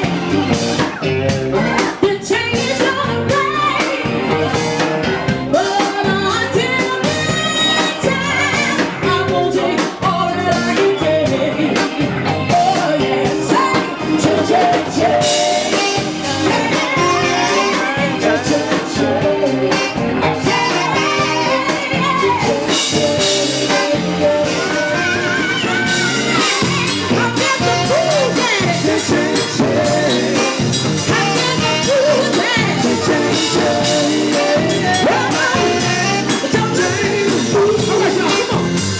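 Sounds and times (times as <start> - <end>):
blues band playing: 0.0 - 38.9
person singing: 0.0 - 38.9.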